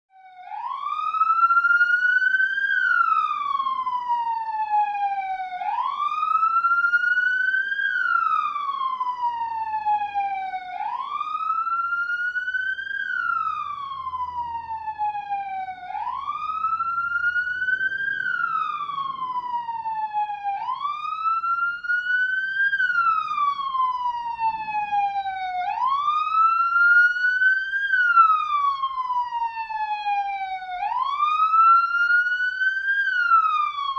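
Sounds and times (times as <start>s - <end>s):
police siren wailing: 0.1s - 33.9s.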